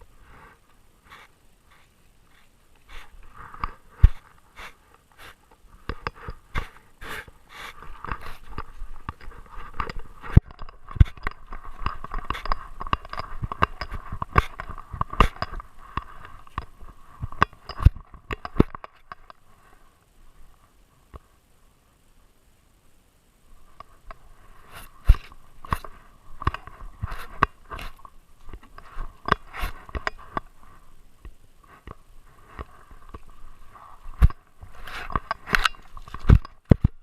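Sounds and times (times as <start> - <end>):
breathy hiss: 0.0 - 17.8, 23.4 - 36.0
irregular clicks and knocks: 0.7 - 19.8, 23.6 - 37.0.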